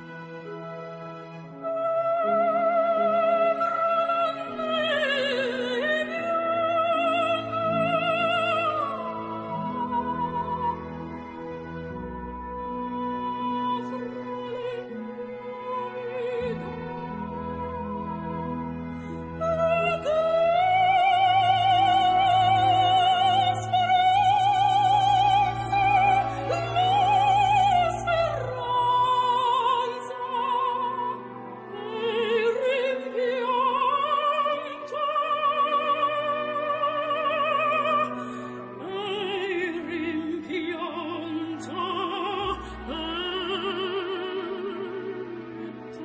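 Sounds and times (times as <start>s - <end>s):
operatic singing: 1.3s - 46.0s.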